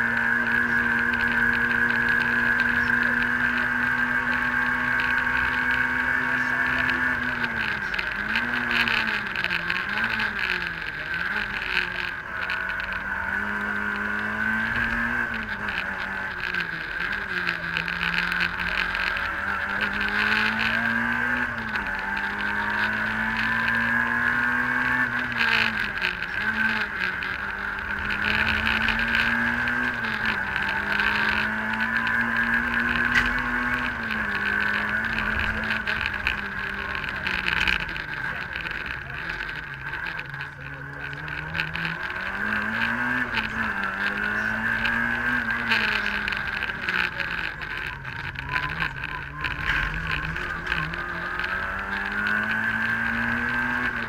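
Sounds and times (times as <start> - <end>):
rally car engine accelerating: 0.0 - 54.0.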